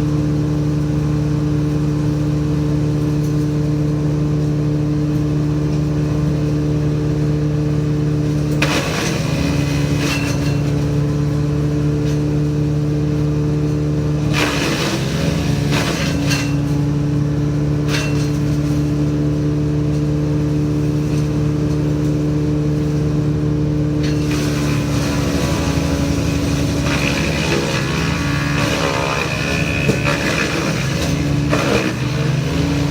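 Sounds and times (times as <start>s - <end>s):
woodchipper engine running: 0.0s - 32.9s
branches crackling in chipper: 5.0s - 32.9s.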